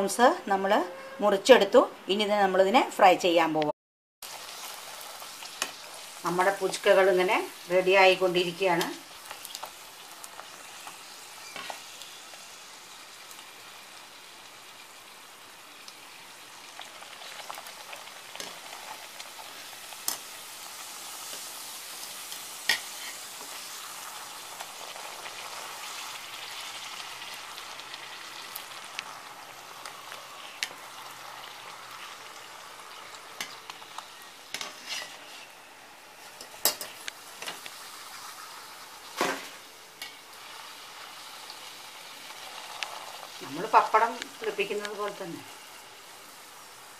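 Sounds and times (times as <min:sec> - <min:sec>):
oil sizzling: 0:04.2 - 0:46.9.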